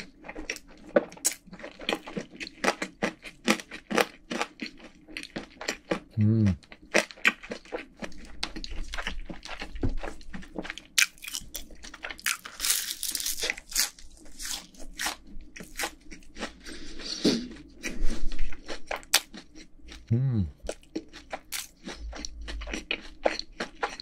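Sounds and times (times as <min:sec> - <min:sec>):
crunching fried chicken: 0:00.0 - 0:24.0.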